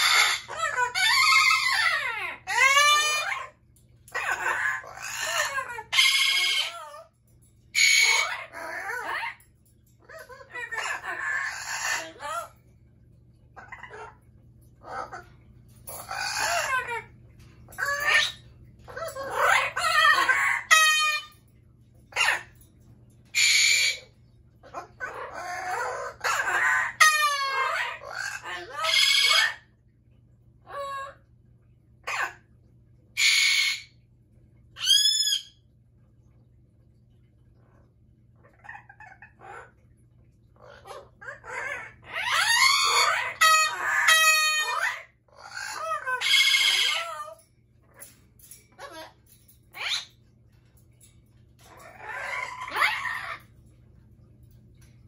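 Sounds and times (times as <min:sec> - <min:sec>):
parrots calling loudly: 0:00.0 - 0:12.7, 0:13.5 - 0:29.7, 0:30.6 - 0:31.3, 0:32.0 - 0:32.5, 0:33.2 - 0:34.0, 0:34.8 - 0:35.6, 0:38.4 - 0:39.8, 0:40.5 - 0:54.9.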